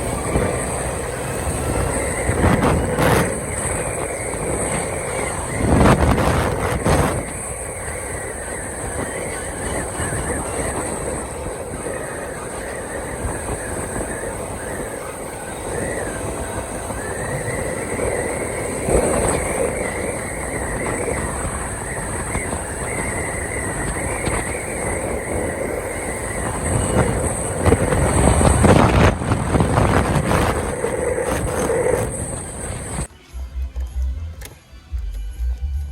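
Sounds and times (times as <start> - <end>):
wavering high squeal: 0.0 - 33.1
vehicle engine rumble: 0.0 - 35.9.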